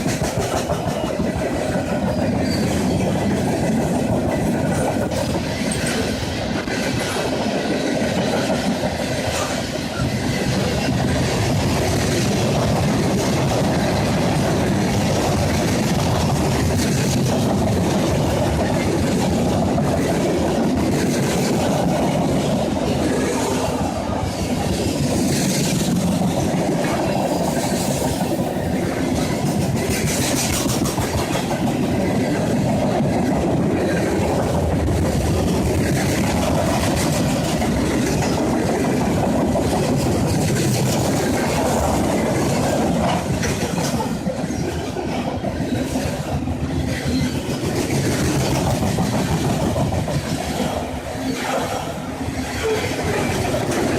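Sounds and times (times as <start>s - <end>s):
train wheels clattering on rails: 0.0s - 53.9s.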